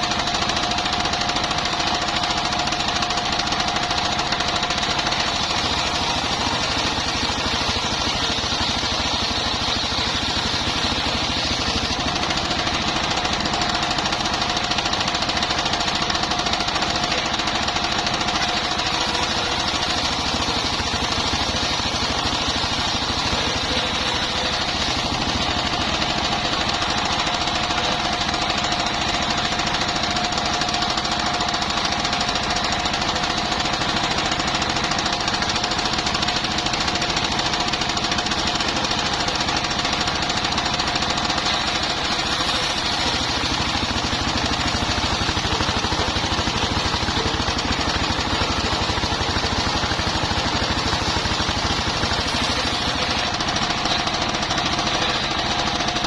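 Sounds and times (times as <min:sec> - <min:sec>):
engine knocking: 0:00.0 - 0:56.0.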